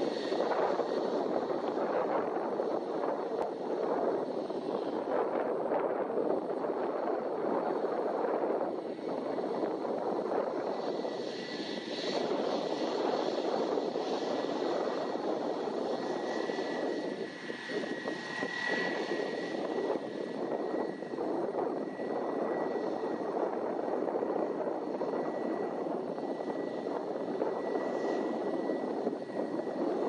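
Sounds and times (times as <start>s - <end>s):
jet engines at low thrust: 0.0s - 30.0s.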